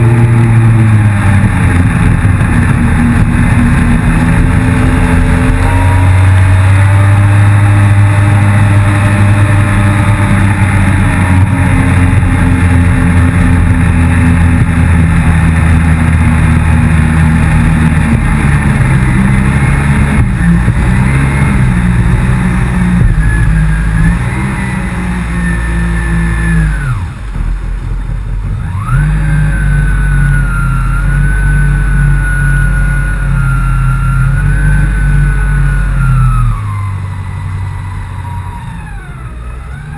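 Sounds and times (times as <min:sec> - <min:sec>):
engine whine: 0:00.0 - 0:39.9
jet ski engine running hard: 0:00.0 - 0:39.9.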